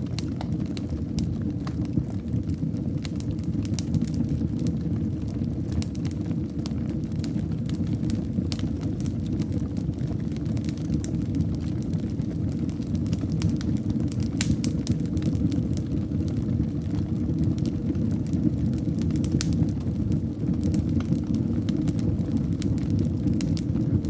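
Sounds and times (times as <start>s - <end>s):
fireplace fire crackling: 0.0s - 24.0s.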